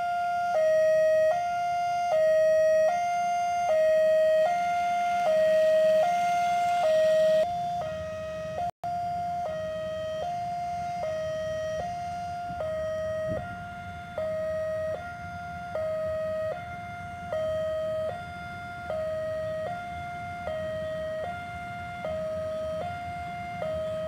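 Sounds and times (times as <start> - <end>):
level crossing warning alarm: 0.0 - 24.0.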